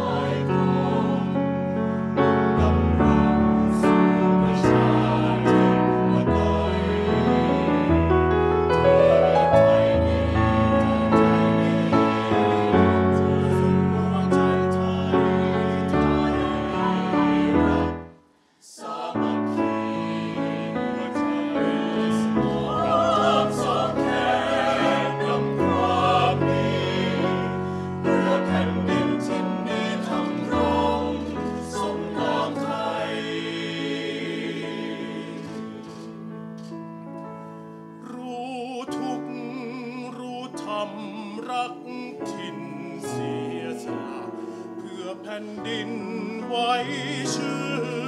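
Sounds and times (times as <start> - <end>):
mixed choir singing in harmony: 0.0 - 36.4, 38.7 - 48.0.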